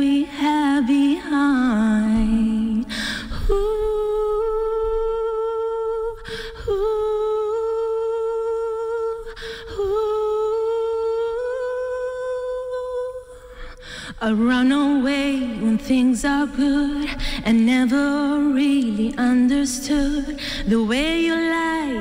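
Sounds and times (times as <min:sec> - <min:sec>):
woman humming into a microphone: 0:00.0 - 0:22.0.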